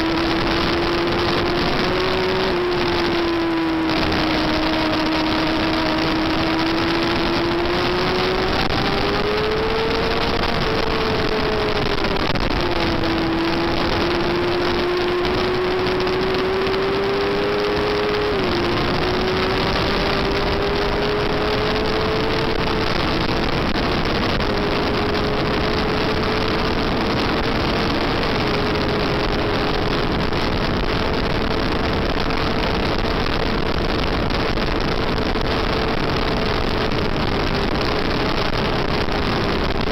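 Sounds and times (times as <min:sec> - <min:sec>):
motorcycle engine at high revs: 0:00.0 - 0:39.9
wind rush over microphone: 0:00.0 - 0:39.9.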